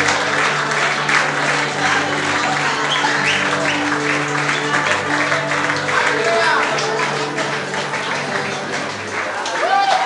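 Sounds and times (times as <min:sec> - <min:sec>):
loud music with held notes: 0:00.0 - 0:09.8
diners applauding: 0:00.0 - 0:10.0.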